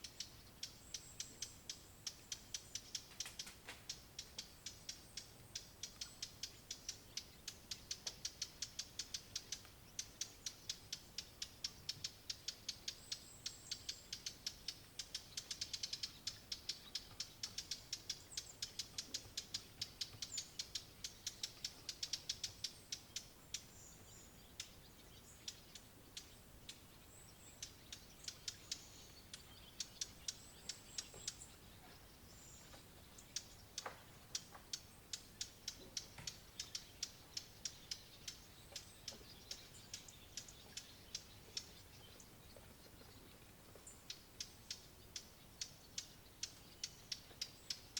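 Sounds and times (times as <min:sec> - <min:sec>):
bird tac alarm calls: 0:00.0 - 0:47.9.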